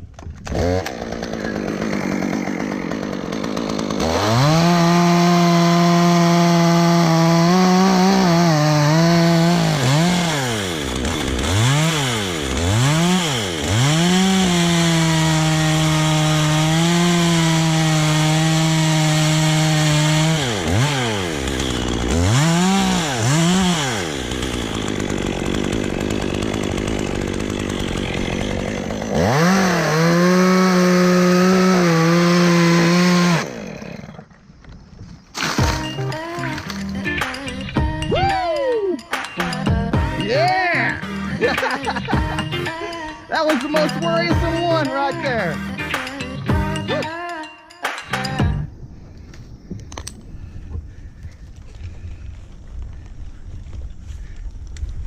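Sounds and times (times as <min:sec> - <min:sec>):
chainsaw cutting wood: 0:00.1 - 0:34.8, 0:35.4 - 0:38.2, 0:39.0 - 0:47.2, 0:47.9 - 0:48.7.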